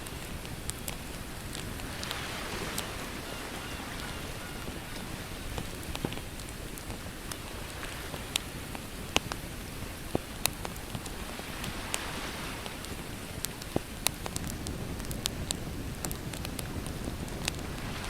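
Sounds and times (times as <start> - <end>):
campfire crackling and popping: 0.0 - 18.0
ocean waves: 0.0 - 18.0.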